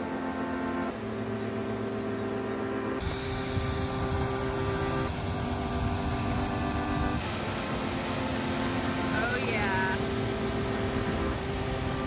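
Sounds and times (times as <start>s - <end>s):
background music of held chords: 0.0s - 12.0s.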